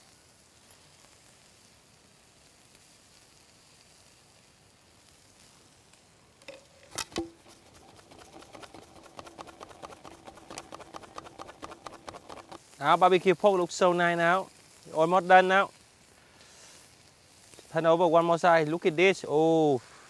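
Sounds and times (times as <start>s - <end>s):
meat sizzling on a grill: 0.0s - 6.8s, 7.4s - 20.0s.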